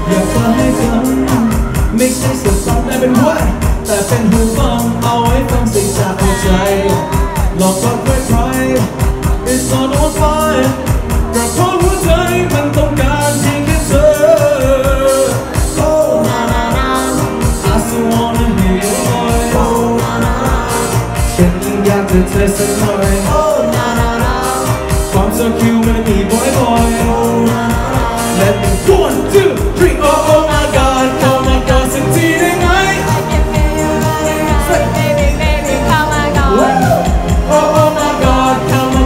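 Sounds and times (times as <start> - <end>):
person singing into microphone: 0.0 - 39.0
pop song with steady beat: 0.0 - 39.0.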